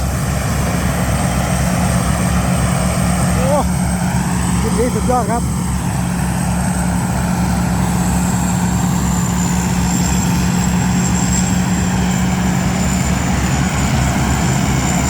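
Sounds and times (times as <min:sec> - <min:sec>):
combine harvester engine humming: 0:00.0 - 0:15.0
high-pitched whine: 0:00.0 - 0:15.0.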